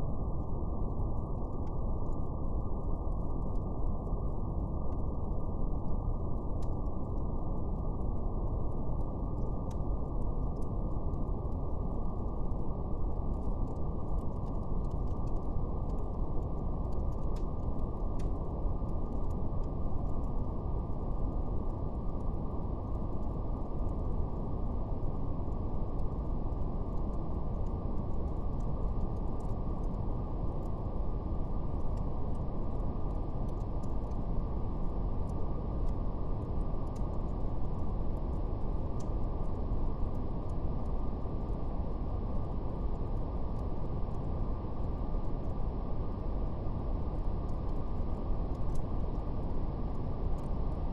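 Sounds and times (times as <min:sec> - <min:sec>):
faint fire crackles: 0:00.0 - 0:50.9
deep muffled brown noise: 0:06.1 - 0:50.9.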